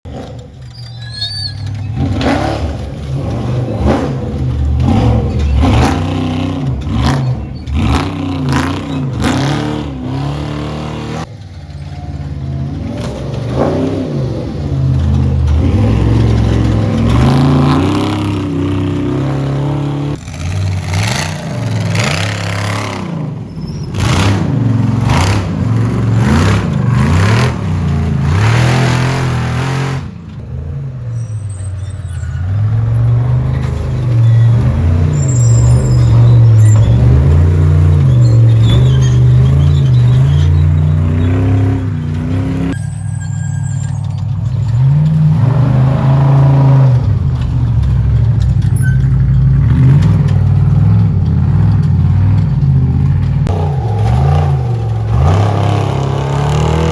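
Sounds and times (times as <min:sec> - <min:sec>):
race trucks accelerating and revving: 0:00.1 - 0:56.9.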